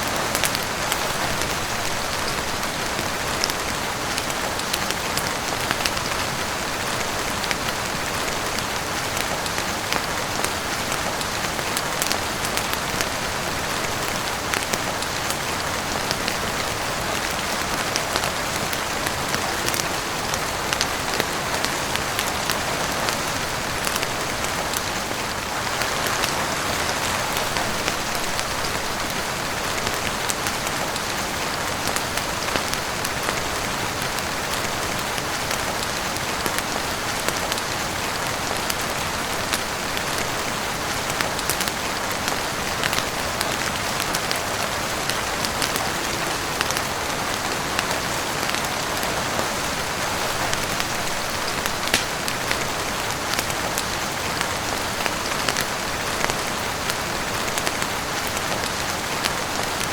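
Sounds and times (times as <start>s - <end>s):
heavy rain: 0.0s - 59.9s
sharp ticks of raindrops: 0.0s - 59.9s.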